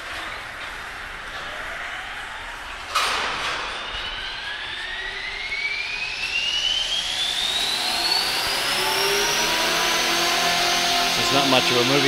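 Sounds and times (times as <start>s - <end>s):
model helicopter rotor whine: 1.4s - 12.0s.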